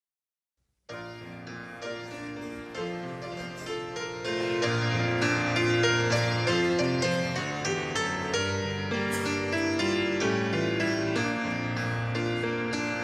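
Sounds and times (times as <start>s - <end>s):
slow keyboard chords: 0.9s - 13.0s.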